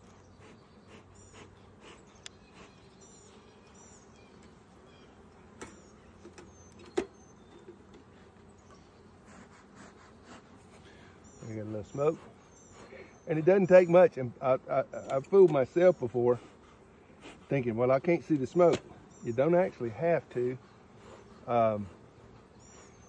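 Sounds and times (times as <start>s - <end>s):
honey bees buzzing: 0.0s - 23.0s
small birds chirping: 0.0s - 23.0s.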